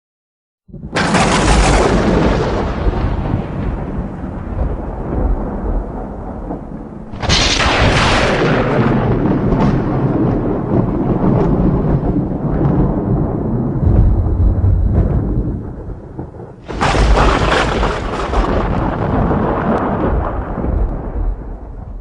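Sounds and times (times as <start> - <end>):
sharp thunder crack: 0.7 - 22.0
thunder rumble: 0.7 - 22.0.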